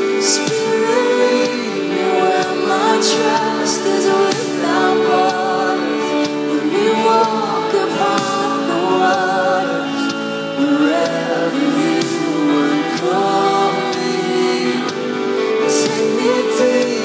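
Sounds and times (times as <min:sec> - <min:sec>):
worship pop song: 0:00.0 - 0:17.0.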